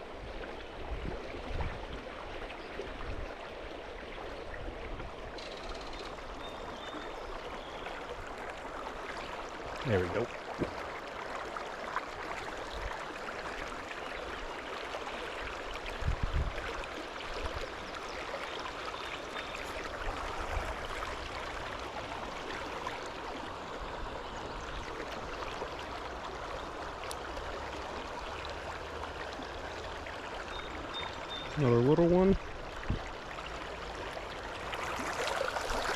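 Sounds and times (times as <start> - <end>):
creek water running: 0.0 - 35.9.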